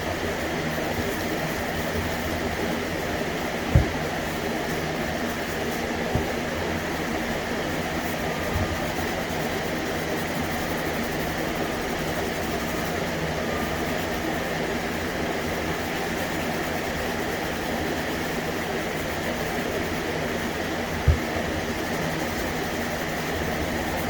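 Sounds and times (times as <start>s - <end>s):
machine hum with hiss: 0.0s - 24.0s.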